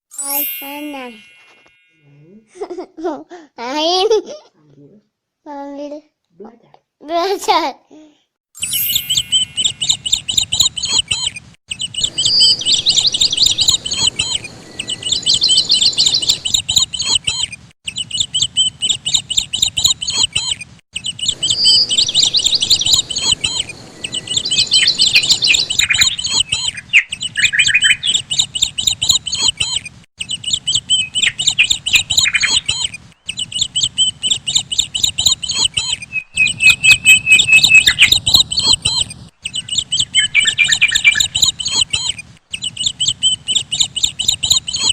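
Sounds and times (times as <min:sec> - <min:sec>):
small birds chirping: 0:08.6 - 0:44.9.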